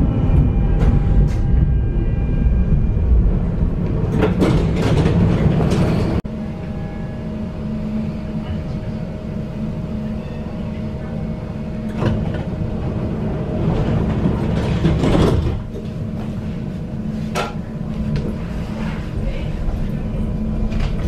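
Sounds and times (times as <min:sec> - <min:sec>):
tram rumble and hum: 0:00.0 - 0:21.0.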